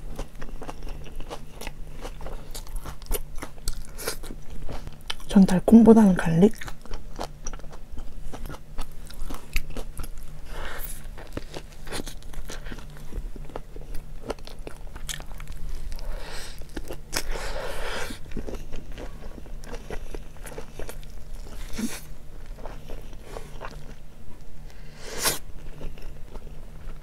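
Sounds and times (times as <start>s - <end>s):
person chewing food: 0.0s - 5.3s, 6.5s - 27.0s.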